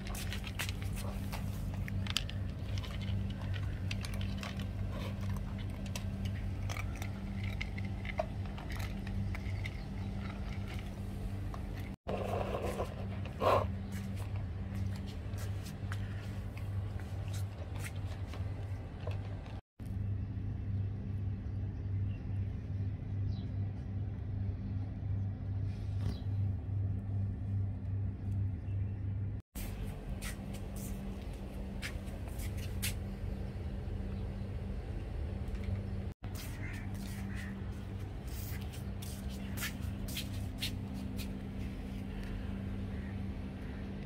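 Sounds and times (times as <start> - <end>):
low pulsing hum: 0.0 - 44.0.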